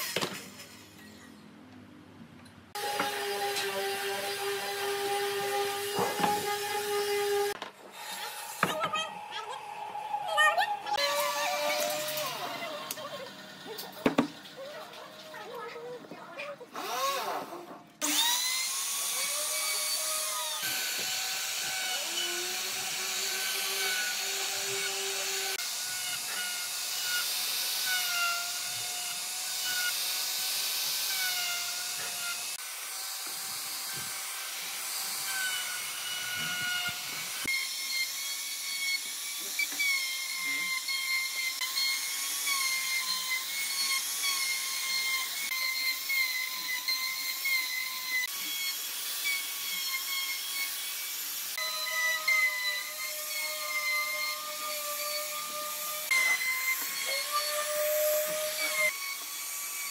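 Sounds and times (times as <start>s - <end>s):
router bit cutting wood: 2.7s - 15.4s, 16.8s - 59.9s
electric router whining: 2.8s - 15.4s, 18.0s - 59.9s.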